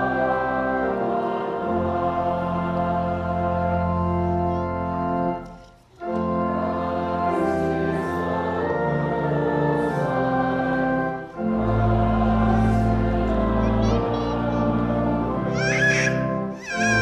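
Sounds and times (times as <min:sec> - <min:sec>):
church organ: 0:00.0 - 0:17.0
congregation singing a hymn: 0:00.0 - 0:17.0.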